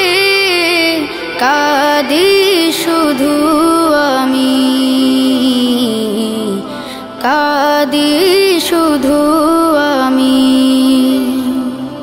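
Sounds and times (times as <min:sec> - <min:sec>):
person singing ornamented notes: 0:00.0 - 0:12.0.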